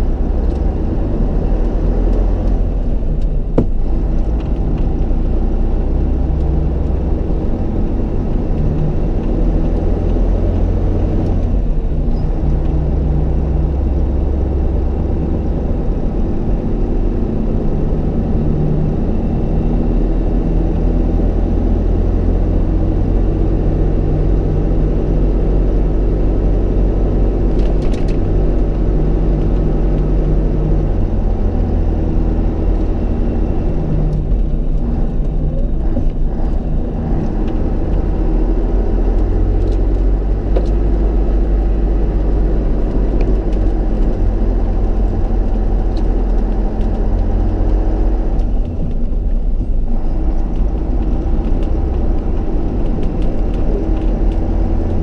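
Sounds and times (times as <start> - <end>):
truck engine drone from cab: 0.0 - 55.0.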